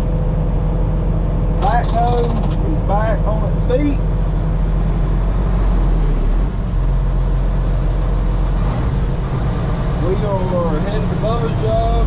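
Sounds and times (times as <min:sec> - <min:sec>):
heavy diesel engine drone: 0:00.0 - 0:12.0.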